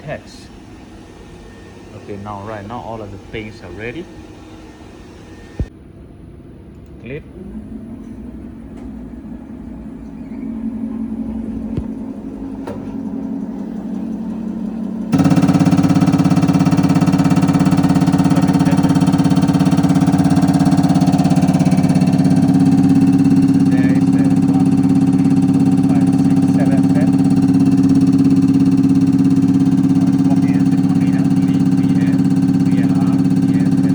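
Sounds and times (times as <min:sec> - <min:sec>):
test bench mechanical hum: 0:00.0 - 0:33.9.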